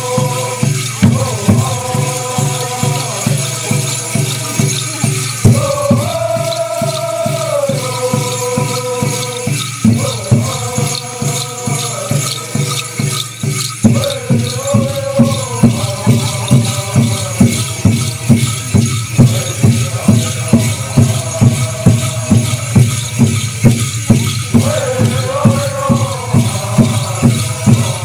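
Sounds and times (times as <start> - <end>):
chorus singing long notes: 0.0 - 28.0
rattles shaken: 0.0 - 28.0
steady drum beat: 0.0 - 28.0.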